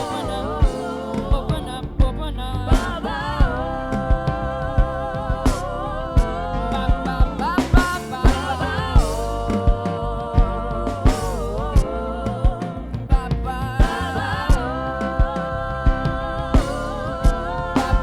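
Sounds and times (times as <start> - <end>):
steady drum beat: 0.0 - 18.0
worship band holding long notes: 0.0 - 18.0.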